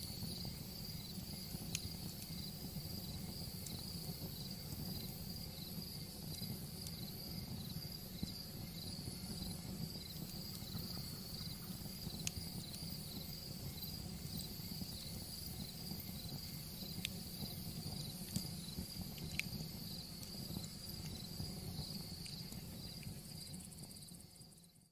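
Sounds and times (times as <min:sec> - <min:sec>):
wood fire rumbling: 0:00.0 - 0:24.4
fire crackling pops: 0:00.0 - 0:24.5
crickets chirping: 0:00.0 - 0:24.9.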